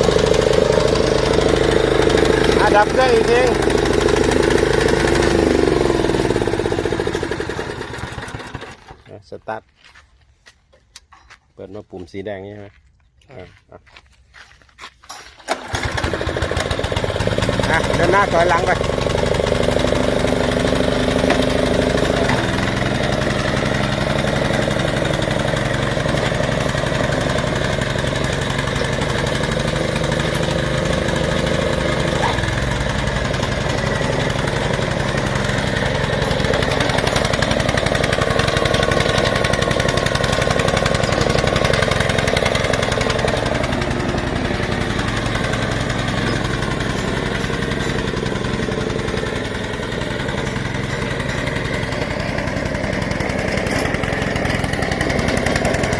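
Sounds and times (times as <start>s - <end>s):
small engine running: 0.0s - 9.1s, 15.4s - 55.9s.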